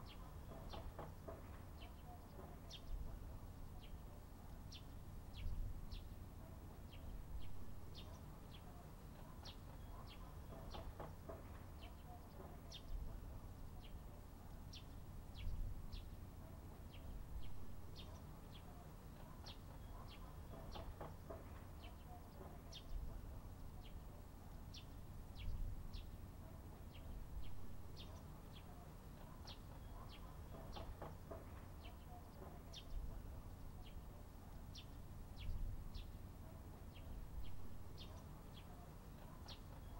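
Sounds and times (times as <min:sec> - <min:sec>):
low outdoor rumble: 0:00.0 - 0:39.9
small birds chirping: 0:00.0 - 0:39.9.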